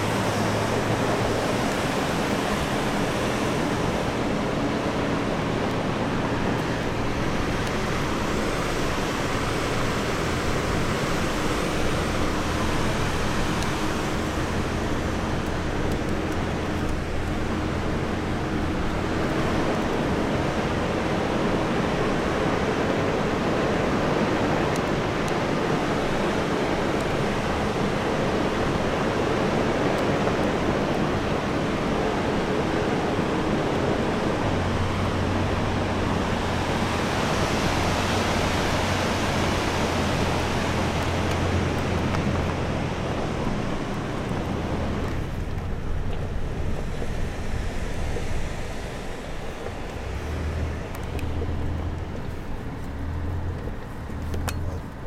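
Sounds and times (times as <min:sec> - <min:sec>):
car engine humming: 0:00.0 - 0:55.0.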